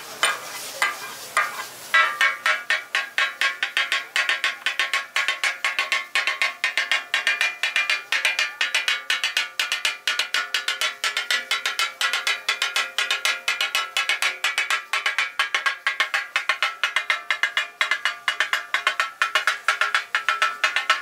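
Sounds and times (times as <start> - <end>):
metal spatula clanging on griddle: 0.0 - 21.0.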